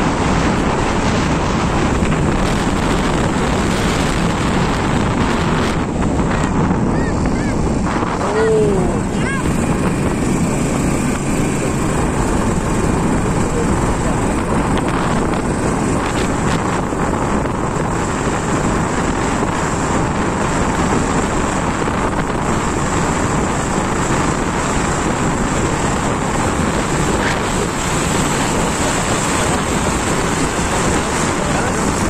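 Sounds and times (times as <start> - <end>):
motorcycle running: 0.0 - 32.0
wind rushing over microphone: 0.0 - 32.0.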